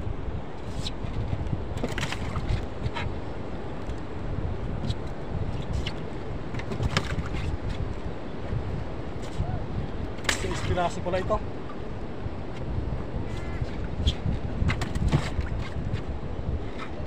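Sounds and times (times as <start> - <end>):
wind buffeting microphone: 0.0 - 17.0
water slapping against hull: 0.6 - 11.0, 12.5 - 17.0.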